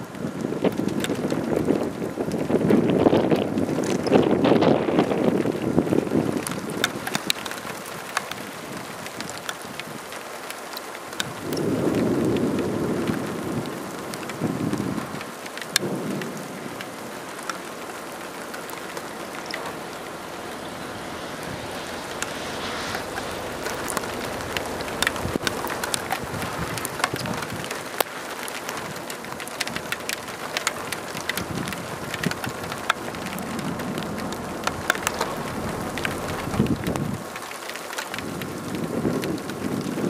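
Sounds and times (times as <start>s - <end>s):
raindrops hitting: 0.0s - 40.0s.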